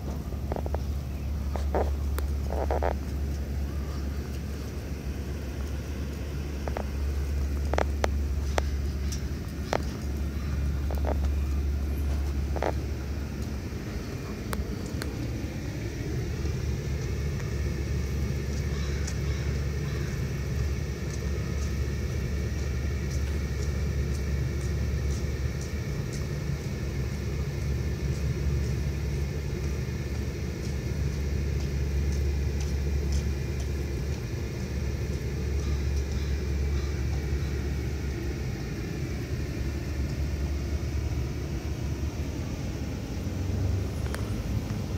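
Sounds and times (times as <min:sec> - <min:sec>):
road traffic rumble: 0:00.0 - 0:44.9.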